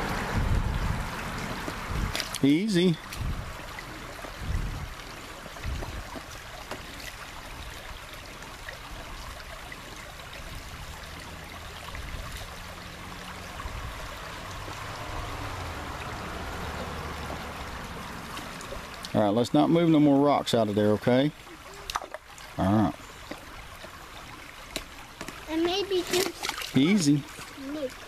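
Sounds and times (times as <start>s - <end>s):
creek water trickling over rocks: 0.0s - 28.0s.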